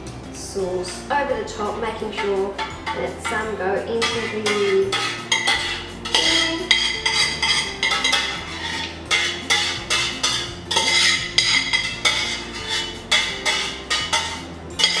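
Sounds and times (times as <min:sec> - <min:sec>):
spoon scraping metal pot: 0:02.0 - 0:15.0.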